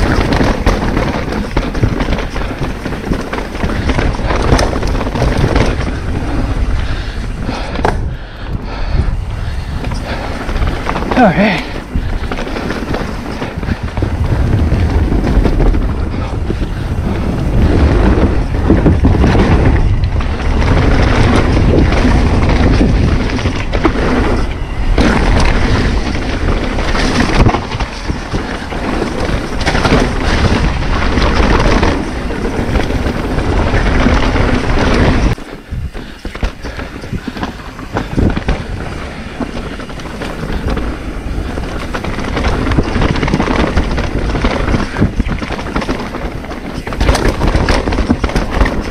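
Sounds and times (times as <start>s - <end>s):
bike rattling and knocking: 0.0s - 48.9s
tyres rolling over dirt: 0.0s - 48.9s
wind rushing over microphone: 0.0s - 48.9s.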